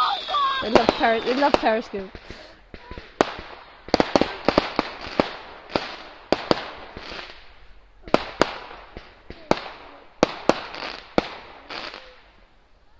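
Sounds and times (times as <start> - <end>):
fireworks exploding: 0.0 - 12.5.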